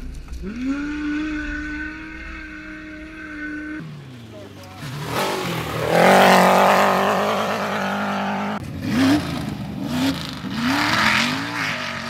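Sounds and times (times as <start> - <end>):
buggy engine revving up: 0.0 - 12.0
buggy engine at high revs: 0.4 - 12.0.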